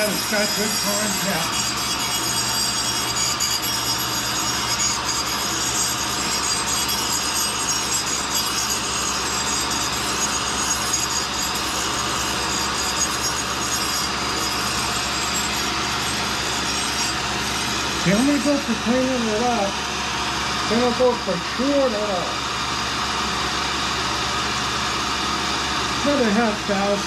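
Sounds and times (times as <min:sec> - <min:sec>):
grinding wheel grinding steel: 0:00.0 - 0:27.0
motors humming: 0:00.0 - 0:27.0.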